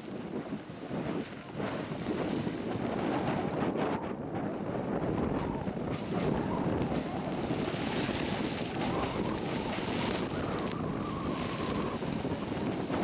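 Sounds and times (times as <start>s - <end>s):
geyser water splashing and rushing: 0.0s - 3.8s, 4.6s - 13.0s
wind rumbling on microphone: 0.0s - 13.0s.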